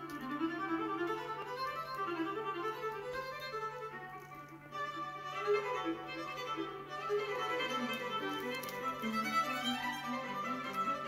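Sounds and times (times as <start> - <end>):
violin melody: 0.0 - 11.0.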